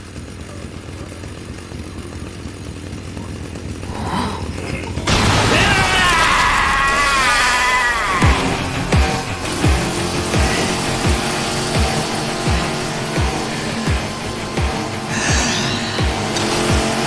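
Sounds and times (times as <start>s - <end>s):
chainsaw engine whine: 0.0s - 17.0s.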